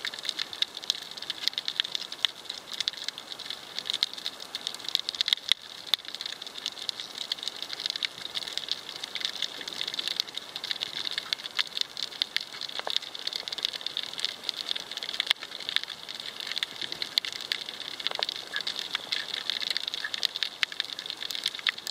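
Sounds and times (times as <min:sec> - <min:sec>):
snapping shrimp clicking underwater: 0:00.0 - 0:21.9.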